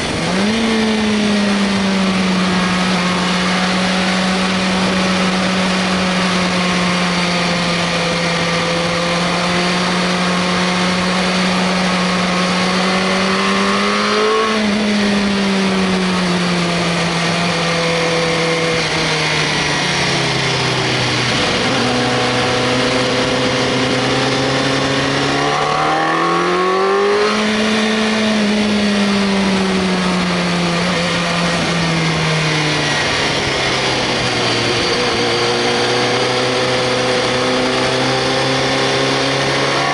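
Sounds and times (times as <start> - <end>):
sport motorcycle engine at speed: 0.0 - 39.9.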